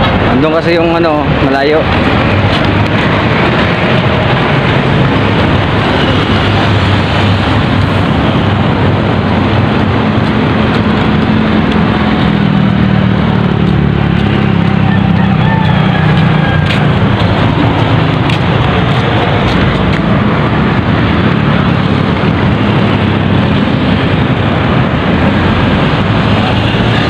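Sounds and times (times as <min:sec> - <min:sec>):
road traffic roar: 0:00.0 - 0:27.0
vehicle passing: 0:00.0 - 0:27.0.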